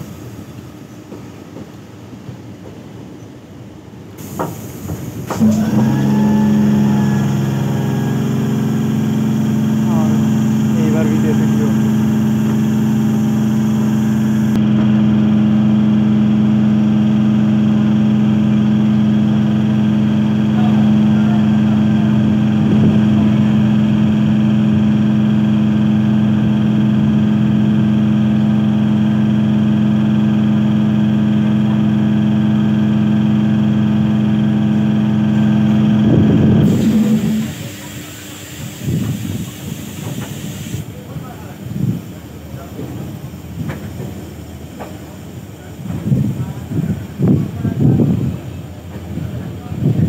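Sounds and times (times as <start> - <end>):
train electrical hum: 0.0 - 50.0
train running noise: 0.0 - 50.0.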